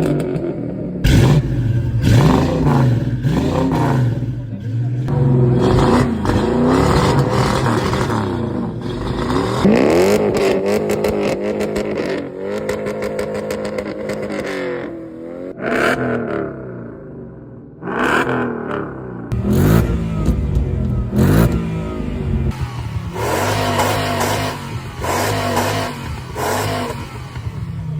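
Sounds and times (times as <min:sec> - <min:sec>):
car engines revving: 0:00.0 - 0:27.9.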